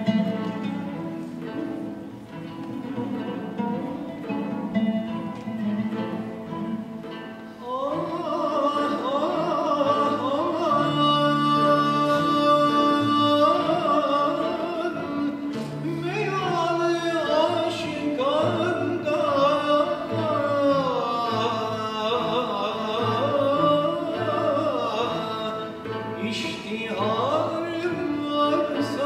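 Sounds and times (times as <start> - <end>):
string ensemble playing: 0.0 - 29.0.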